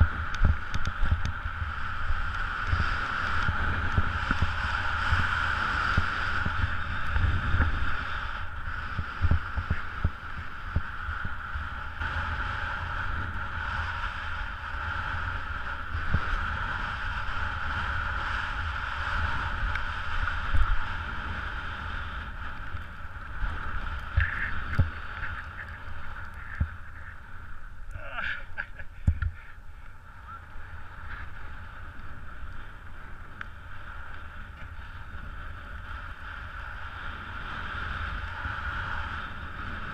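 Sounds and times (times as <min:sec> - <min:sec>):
skis sliding over snow: 0:00.0 - 0:39.9
wind buffeting microphone: 0:00.0 - 0:39.9.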